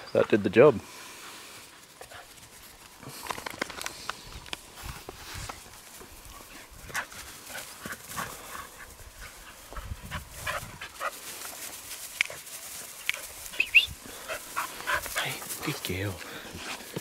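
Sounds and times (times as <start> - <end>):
dogs scuffling on grass: 0.6 - 17.0.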